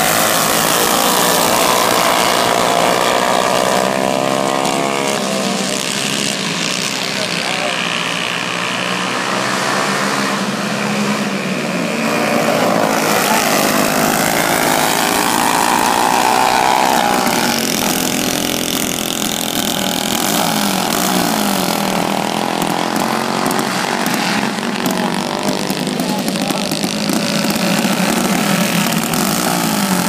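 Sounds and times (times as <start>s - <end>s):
go-kart engines passing: 0.0s - 30.0s.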